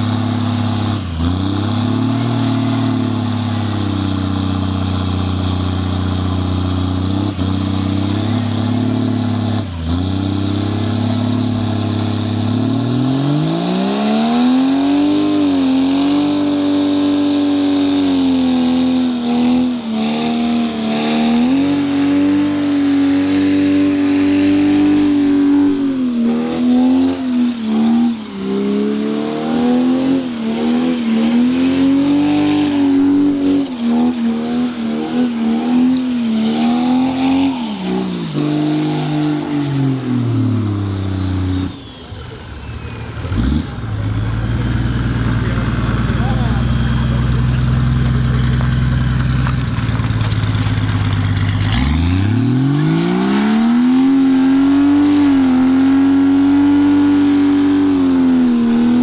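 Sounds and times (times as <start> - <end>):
car engine revving: 0.0 - 41.9, 43.1 - 59.0.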